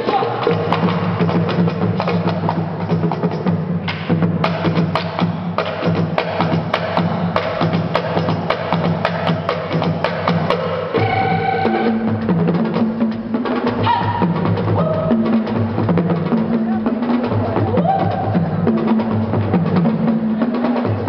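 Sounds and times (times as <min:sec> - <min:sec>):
sharp percussion hits: 0:00.0 - 0:17.4
live band music: 0:00.0 - 0:21.0.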